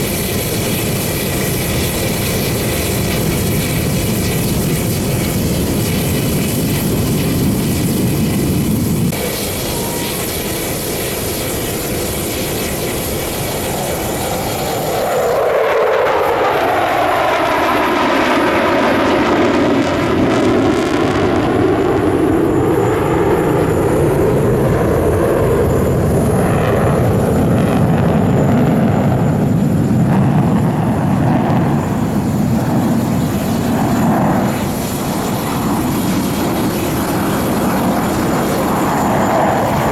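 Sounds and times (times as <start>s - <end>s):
jet fighters flying by: 0.0s - 39.9s.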